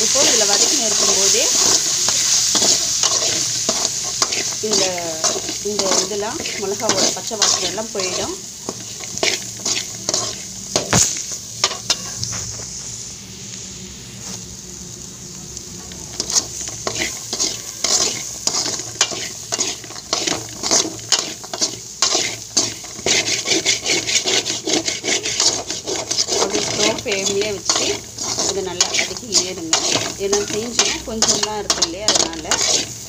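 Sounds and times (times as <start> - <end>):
low sizzle: 0.0 - 33.0
spoon scraping metal pan: 0.2 - 12.2, 16.2 - 33.0.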